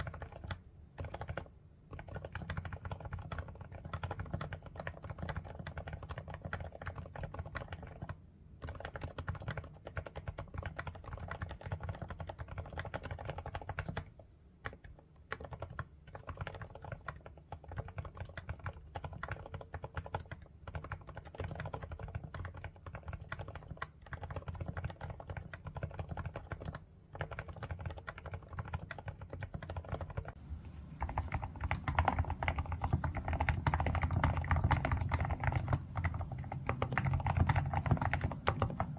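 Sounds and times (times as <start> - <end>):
soft keyboard keystrokes: 0.0 - 38.9.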